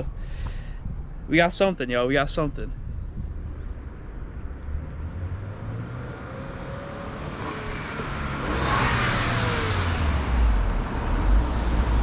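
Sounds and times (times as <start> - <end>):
deep car engine rumble: 0.0 - 12.0.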